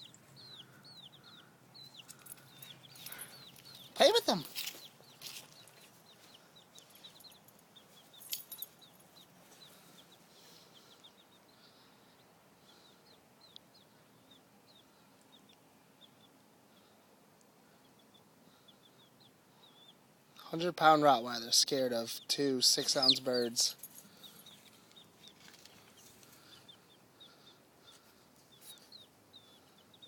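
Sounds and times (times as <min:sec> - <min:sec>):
baby chicks peeping: 0:00.0 - 0:30.0.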